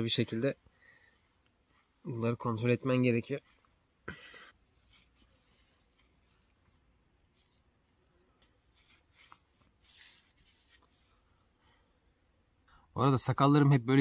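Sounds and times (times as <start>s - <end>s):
faint cloth rustles: 0.0s - 12.3s.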